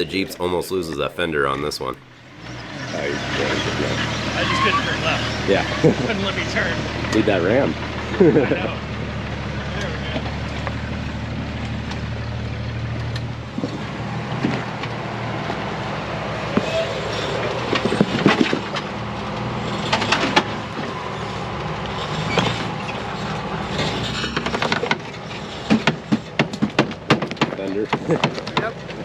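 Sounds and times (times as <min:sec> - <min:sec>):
jeep engine crawling: 0:00.0 - 0:29.0.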